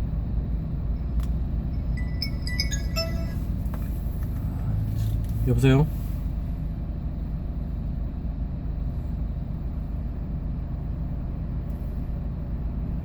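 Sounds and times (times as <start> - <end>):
truck engine and road noise: 0.0 - 13.0.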